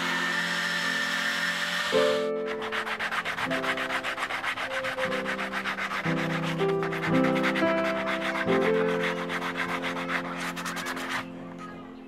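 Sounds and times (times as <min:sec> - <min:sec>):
background music: 0:00.0 - 0:12.0
sandpaper rubbing on shell: 0:00.1 - 0:11.5.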